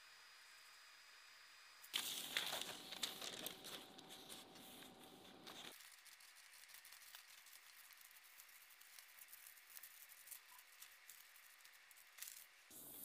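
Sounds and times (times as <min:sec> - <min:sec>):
paper rustling and crinkling: 0:01.9 - 0:12.6.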